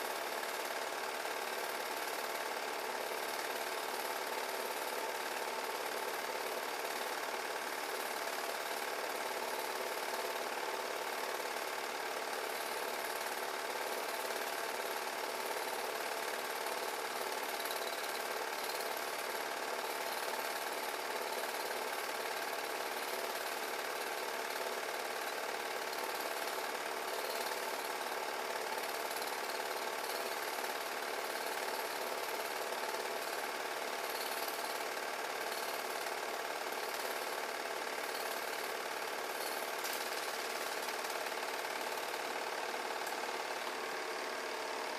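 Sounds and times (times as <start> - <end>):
film projector running: 0.0 - 44.9.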